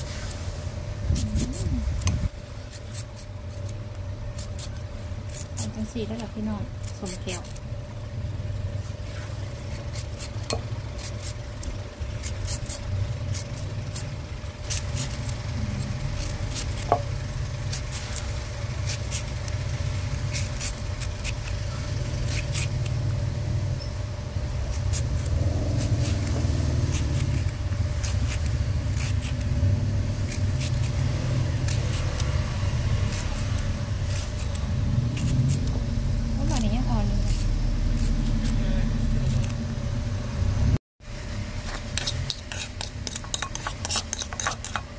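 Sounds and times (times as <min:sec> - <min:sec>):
knife slicing mango: 0:00.0 - 0:07.6, 0:09.2 - 0:23.2, 0:24.6 - 0:35.8, 0:36.4 - 0:39.9, 0:41.6 - 0:44.9.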